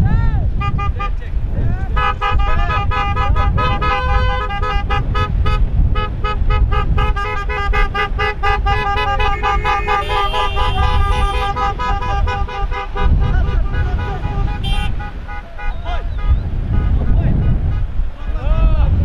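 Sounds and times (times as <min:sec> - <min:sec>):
steady low rumble: 0:00.0 - 0:19.0
car horns honking: 0:00.5 - 0:18.2.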